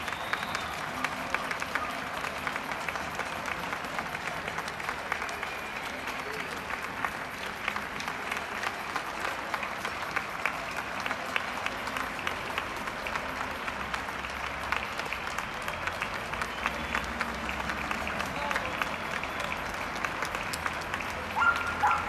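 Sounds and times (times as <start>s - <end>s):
crowd applause: 0.0s - 22.0s.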